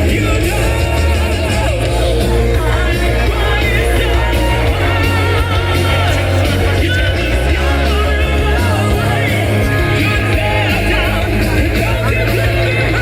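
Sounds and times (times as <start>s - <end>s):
heavy metal music: 0.0s - 13.0s
person singing with vibrato: 0.0s - 13.0s.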